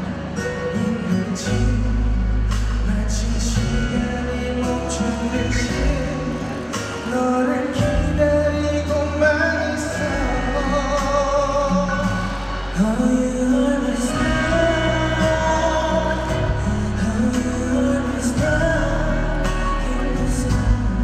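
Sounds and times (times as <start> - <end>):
backing music: 0.0 - 21.0
man singing into microphone: 0.3 - 21.0.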